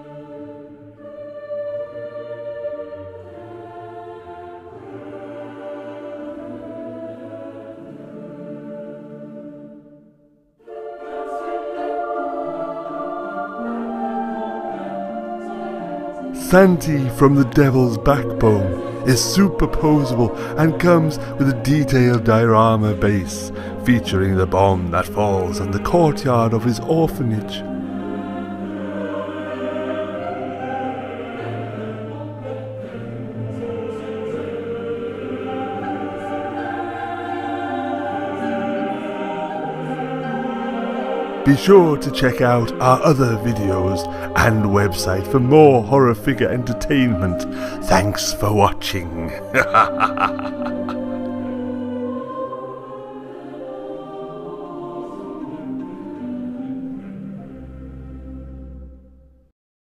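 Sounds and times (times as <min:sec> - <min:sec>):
choir singing held notes: 0:00.0 - 0:10.0, 0:10.6 - 0:58.7.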